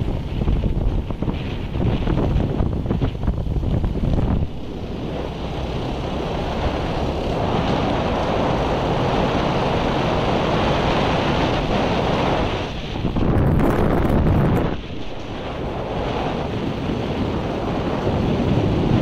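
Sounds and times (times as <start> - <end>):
motorcycle running: 0.0 - 19.0
wind buffeting microphone: 0.0 - 19.0.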